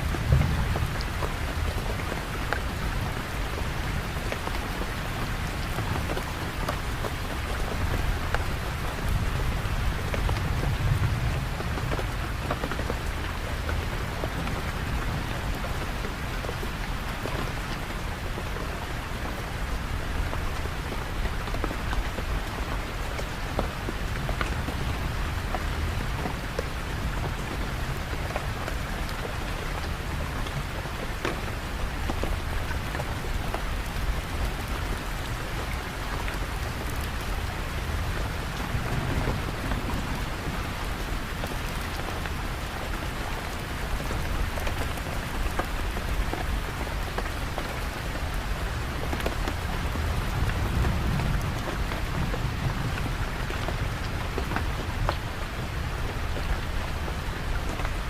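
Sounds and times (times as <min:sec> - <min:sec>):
dense hiss of rain: 0:00.0 - 0:58.0
raindrops pattering: 0:00.0 - 0:58.0.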